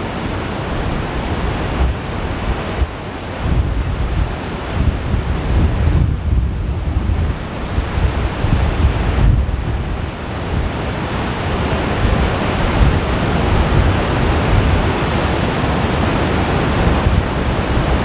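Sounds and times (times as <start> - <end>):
rushing water with low rumble: 0.0 - 18.0.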